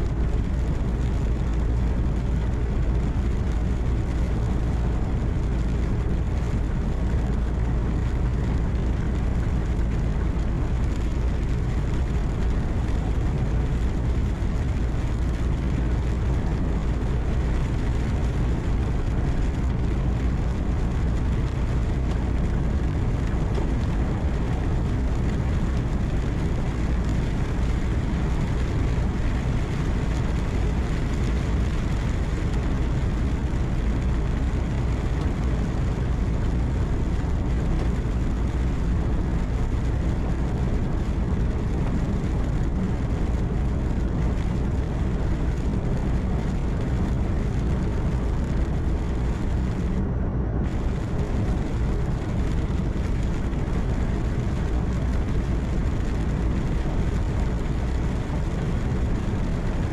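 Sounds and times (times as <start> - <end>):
road noise: 0.0 - 59.9
truck engine hum: 0.0 - 59.9.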